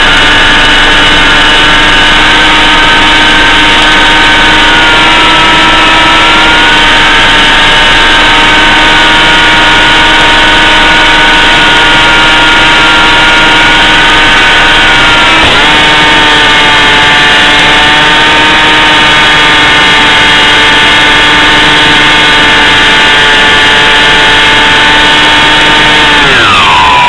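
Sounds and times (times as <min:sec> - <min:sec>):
model plane motor whining: 0:00.0 - 0:27.0.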